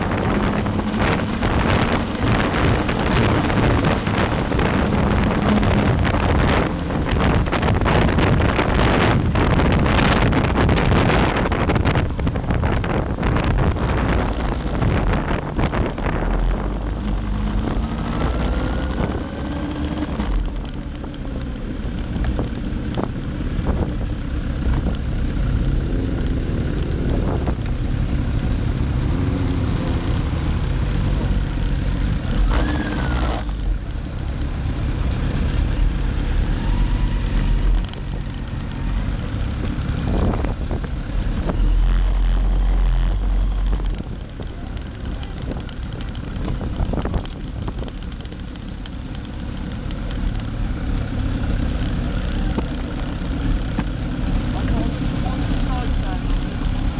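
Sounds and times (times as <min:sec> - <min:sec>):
motorcycle engine running: 0:00.0 - 0:56.9
wind rushing over microphone: 0:00.0 - 0:56.9.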